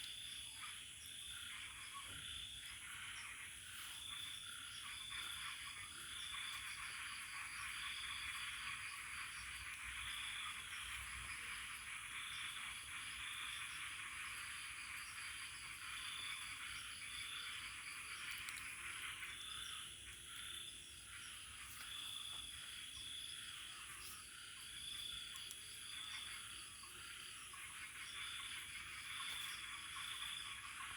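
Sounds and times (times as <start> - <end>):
frogs and insects chorus: 0.0 - 30.9.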